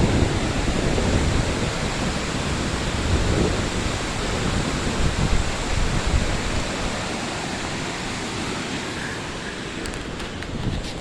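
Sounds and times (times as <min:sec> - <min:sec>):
water rushing: 0:00.0 - 0:11.0
wind rumble on microphone: 0:00.0 - 0:11.0.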